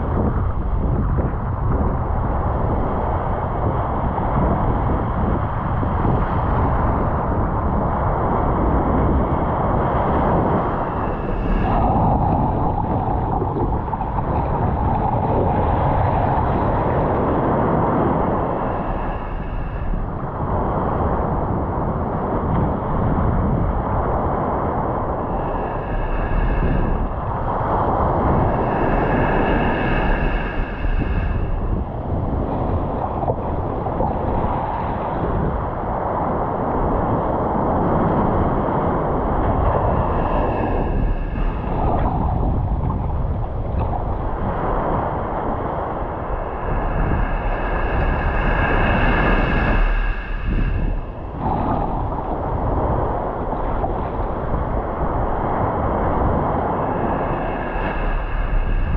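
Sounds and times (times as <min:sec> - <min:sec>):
wind on microphone: 0:00.0 - 0:58.9
ocean surf breaking: 0:02.5 - 0:58.9.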